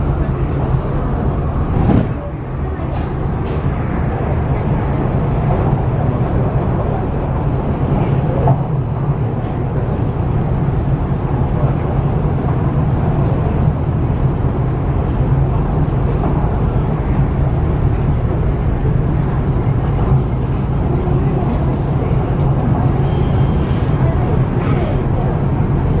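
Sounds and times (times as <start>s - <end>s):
train wheels rumbling: 0.0s - 26.0s.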